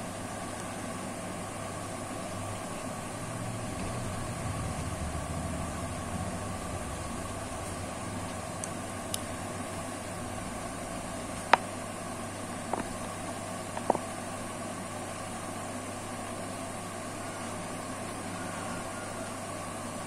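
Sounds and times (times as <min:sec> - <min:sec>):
background hum and hiss: 0:00.0 - 0:20.0.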